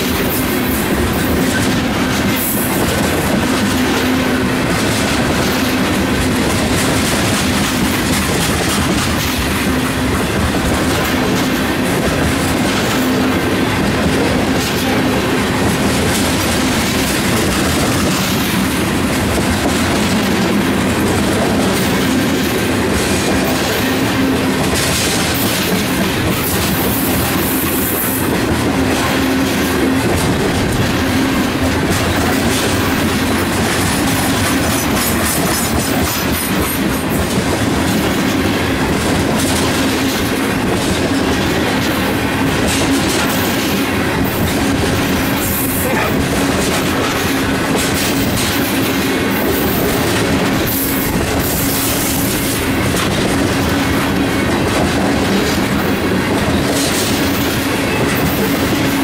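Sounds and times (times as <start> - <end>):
freight train wheels clicking: 0.0 - 59.0.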